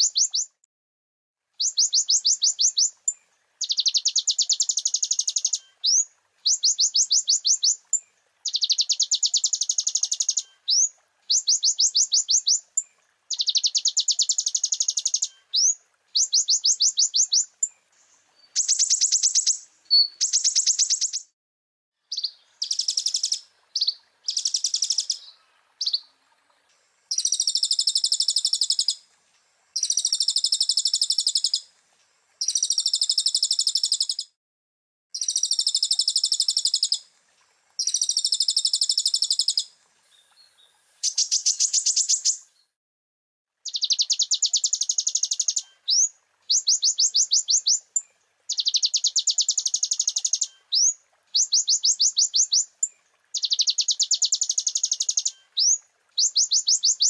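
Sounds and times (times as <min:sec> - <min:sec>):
sunbird singing trills: 0:00.0 - 0:00.6, 0:01.6 - 0:21.3, 0:22.1 - 0:26.1, 0:27.1 - 0:29.0, 0:29.8 - 0:31.7, 0:32.4 - 0:34.3, 0:35.2 - 0:37.0, 0:37.8 - 0:42.7, 0:43.6 - 0:57.0.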